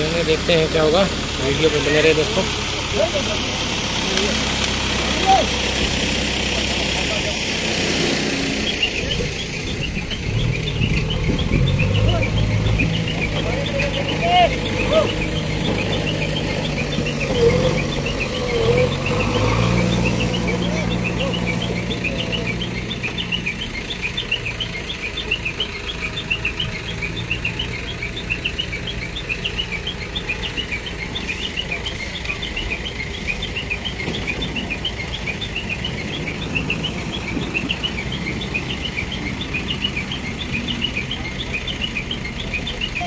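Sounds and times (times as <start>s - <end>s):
crane diesel engine running: 0.0s - 43.0s
high chirping warning beeper: 6.3s - 43.0s.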